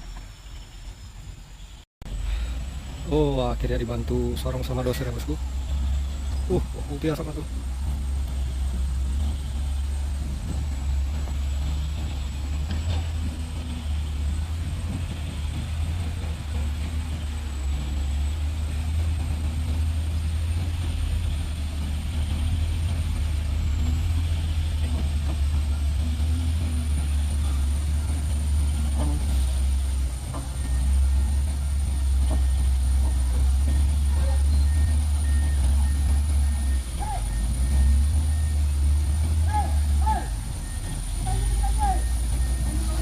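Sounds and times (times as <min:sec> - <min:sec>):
bulldozer engine running hard: 0:00.0 - 0:43.0
truck diesel engine under load: 0:00.0 - 0:43.0.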